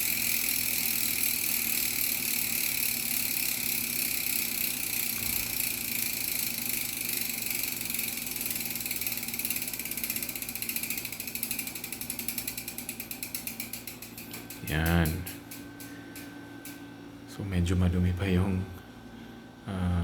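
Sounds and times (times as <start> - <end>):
bicycle freehub ratchet clicking: 0.0 - 16.8.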